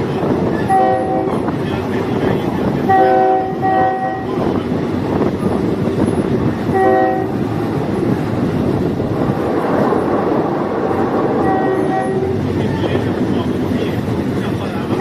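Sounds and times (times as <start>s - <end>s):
train rumbling along tracks: 0.0s - 15.0s.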